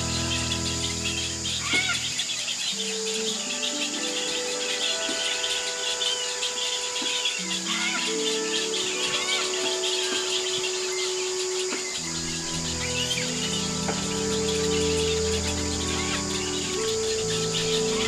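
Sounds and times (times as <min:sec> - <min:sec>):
falling bird call: 0:00.0 - 0:18.0
insects chirring: 0:00.0 - 0:18.0
soft background music: 0:00.0 - 0:18.0.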